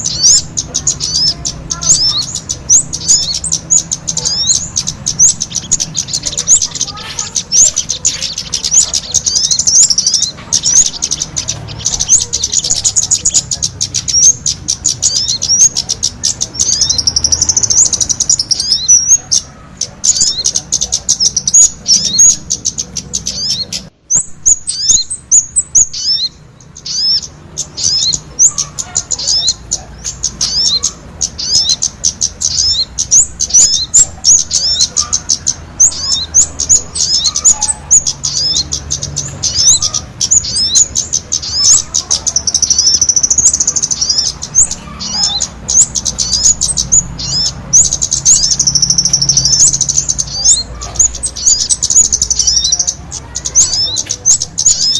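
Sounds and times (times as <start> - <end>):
small birds chirping rapidly: 0.0 - 54.9.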